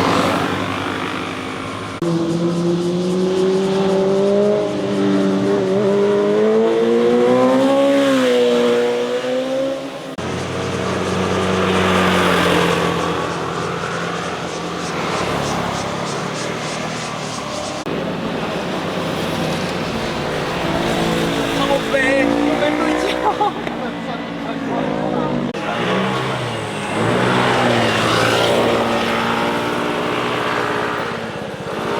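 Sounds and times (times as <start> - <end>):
motorcycle engine revving: 0.0 - 31.9
motorcycle passing by: 0.0 - 31.9.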